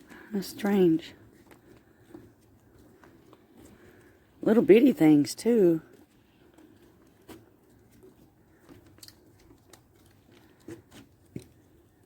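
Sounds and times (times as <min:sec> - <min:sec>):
light clicks and crunches: 0:00.0 - 0:12.0.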